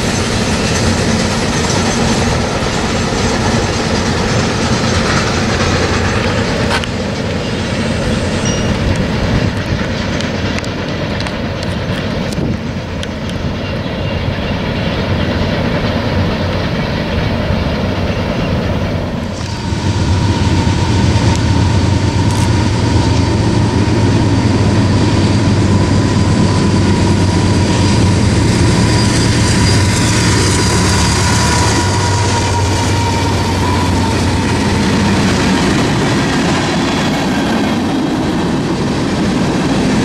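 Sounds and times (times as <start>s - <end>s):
train cars rumbling on rails: 0.0s - 40.0s.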